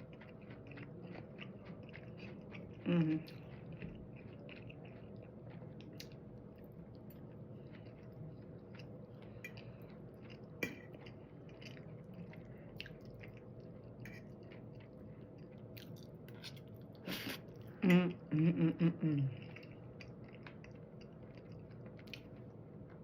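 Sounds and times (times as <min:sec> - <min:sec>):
person chewing food: 0:00.0 - 0:17.8, 0:19.3 - 0:23.0.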